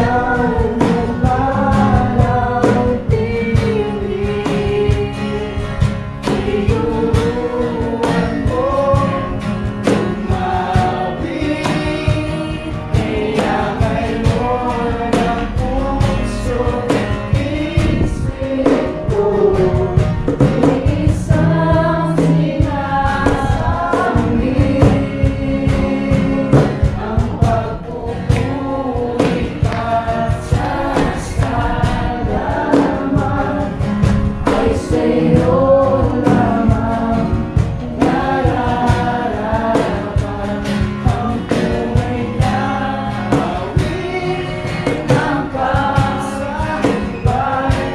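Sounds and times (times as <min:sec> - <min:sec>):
band with steady beat: 0:00.0 - 0:47.9
group of voices singing: 0:00.0 - 0:47.9.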